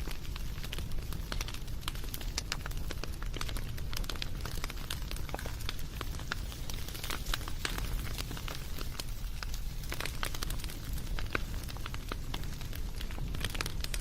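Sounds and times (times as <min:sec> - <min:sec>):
campfire crackling: 0:00.0 - 0:14.0
low rumble of flames: 0:00.0 - 0:14.0.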